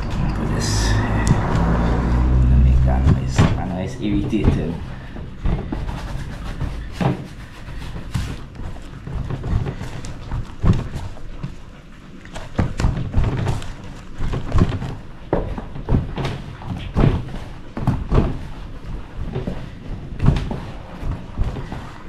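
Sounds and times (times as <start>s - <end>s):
dough kneading thumps: 0.0s - 22.0s.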